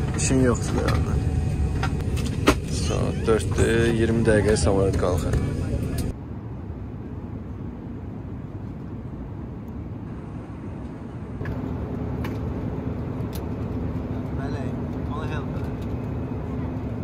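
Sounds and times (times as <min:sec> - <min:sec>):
airliner cabin rumble: 0:00.0 - 0:17.0
steady hum: 0:00.0 - 0:17.0.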